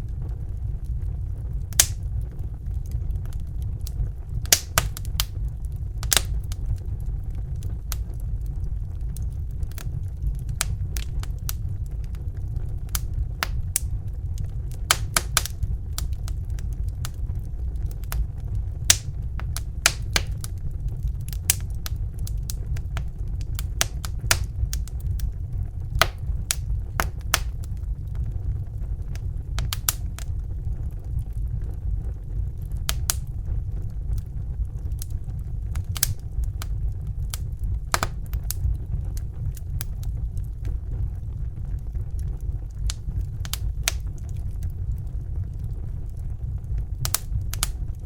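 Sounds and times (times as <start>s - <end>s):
burner flame roaring: 0.0s - 48.0s
wood fire crackling and popping: 0.0s - 48.0s.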